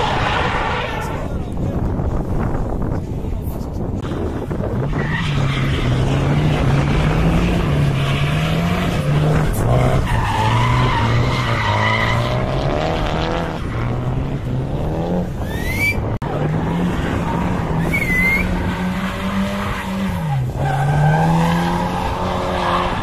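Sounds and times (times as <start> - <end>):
car engine revving: 4.1 - 23.0.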